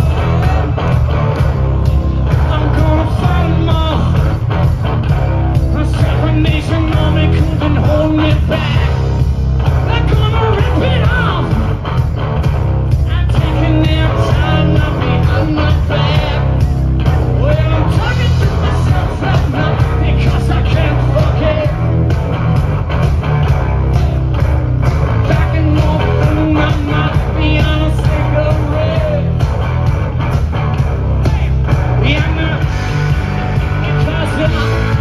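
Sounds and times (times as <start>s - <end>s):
live rock band with singing: 0.0s - 35.0s.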